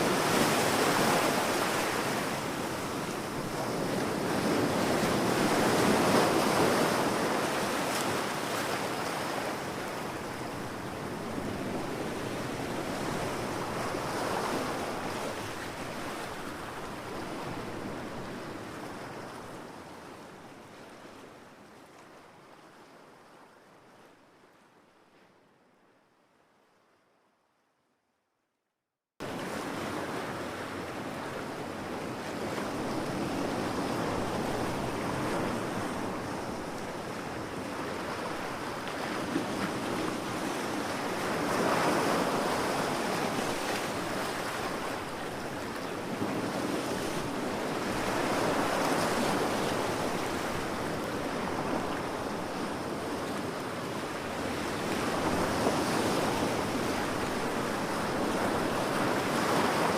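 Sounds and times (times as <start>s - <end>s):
ocean waves breaking on beach: 0.0s - 22.4s, 29.2s - 59.9s.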